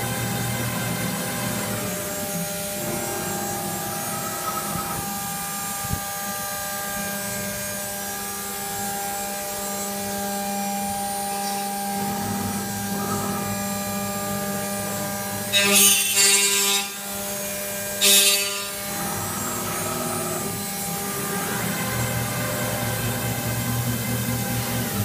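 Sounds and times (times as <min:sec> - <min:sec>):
machine spindle whining: 0:00.0 - 0:25.0.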